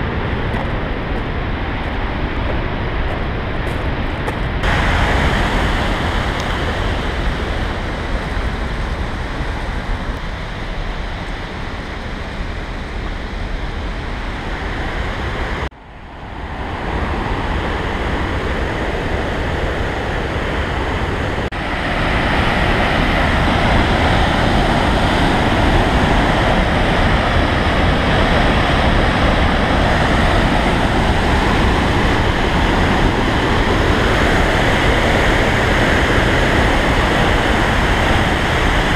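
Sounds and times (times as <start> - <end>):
rushing mountain torrent: 0.0 - 38.9.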